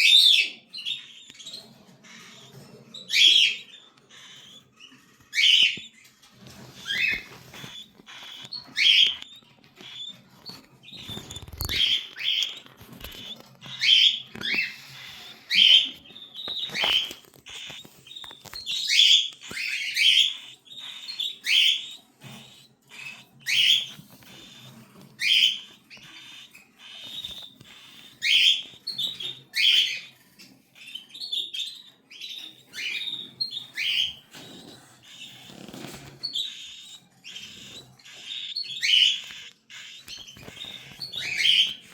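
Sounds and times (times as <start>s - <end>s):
cockatiel chicks calling: 0.0s - 41.9s.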